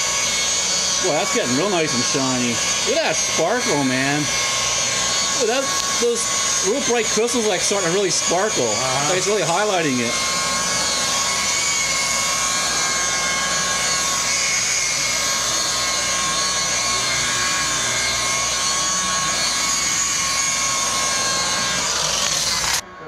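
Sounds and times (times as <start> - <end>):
electric rotary buffer whining: 0.0 - 23.0
polishing pad hissing: 0.0 - 23.0.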